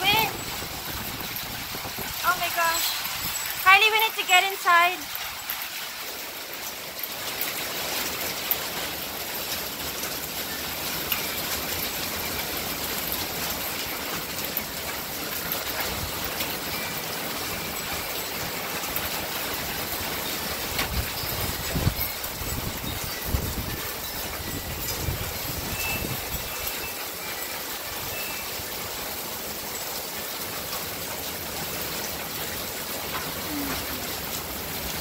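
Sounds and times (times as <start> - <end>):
hail ticking: 0.0 - 35.0
heavy rain hissing: 0.0 - 35.0.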